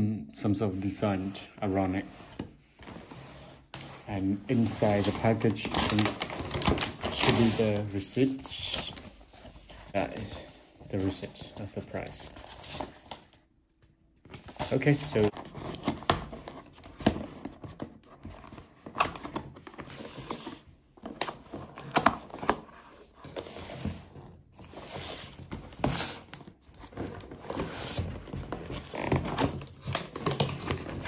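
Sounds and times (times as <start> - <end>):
cardboard rustling and scraping: 0.9 - 13.4, 14.2 - 31.0.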